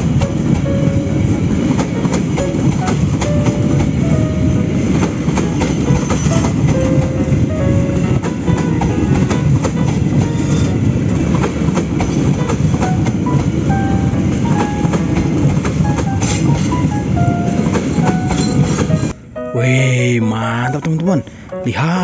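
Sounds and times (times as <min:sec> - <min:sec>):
rail clicks: 0:00.0 - 0:19.2
train rumbling on track: 0:00.0 - 0:19.2.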